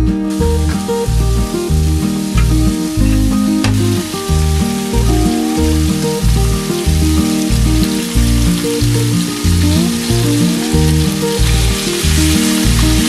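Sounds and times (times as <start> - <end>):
meat sizzling in a frying pan: 0.2 - 13.0.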